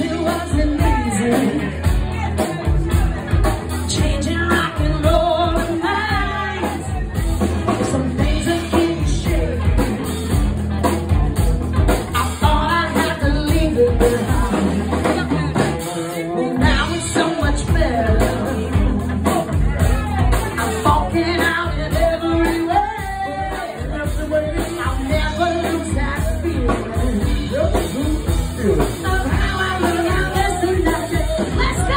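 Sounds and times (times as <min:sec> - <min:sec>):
person singing: 0:00.0 - 0:10.5, 0:12.1 - 0:31.9
bass guitar: 0:00.0 - 0:31.9
live funk band playing: 0:00.0 - 0:31.9.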